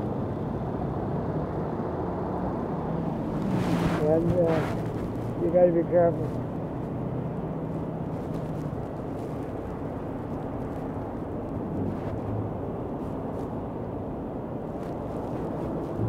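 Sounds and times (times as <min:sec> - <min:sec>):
cars driving past: 0:00.0 - 0:16.0
low engine rumble: 0:00.0 - 0:16.0.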